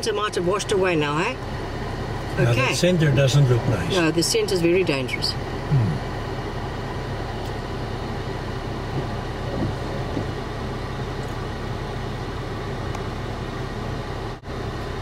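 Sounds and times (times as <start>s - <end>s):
floodwater roaring over road: 0.0s - 15.0s.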